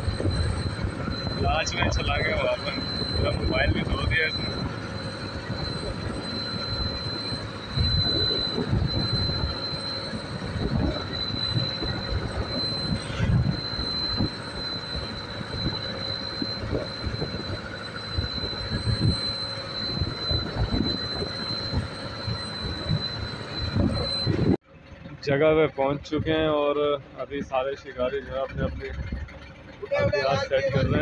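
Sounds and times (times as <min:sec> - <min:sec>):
wind buffeting microphone: 0:00.0 - 0:24.6, 0:28.5 - 0:31.0
boat engine whining: 0:00.0 - 0:31.0.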